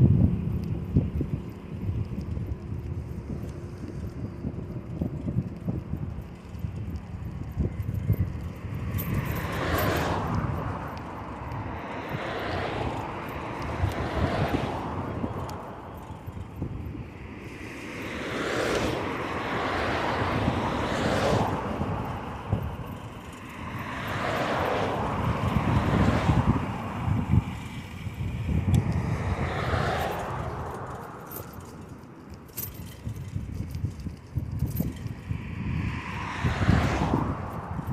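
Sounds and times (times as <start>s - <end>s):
low wind rumble on microphone: 0.0s - 37.9s
motor vehicles passing: 0.0s - 37.9s.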